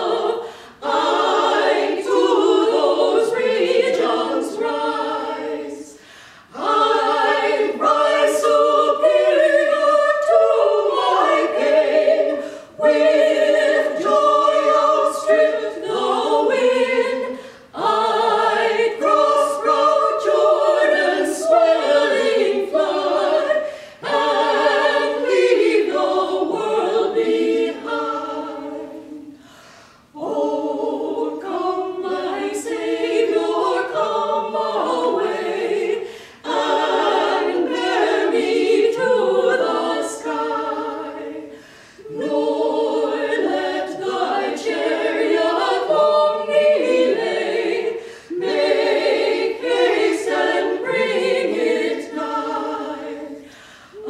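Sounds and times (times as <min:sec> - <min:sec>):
women singing in harmony: 0:00.0 - 0:54.0.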